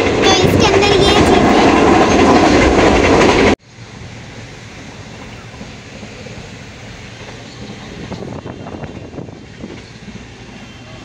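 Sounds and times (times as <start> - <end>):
quiet steady train rumble: 0.0 - 11.0
train rumble and rattle: 0.0 - 11.0.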